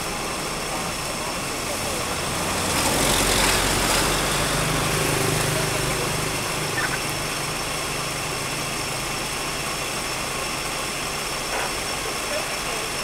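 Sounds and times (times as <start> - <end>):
engine humming: 0.0 - 12.2.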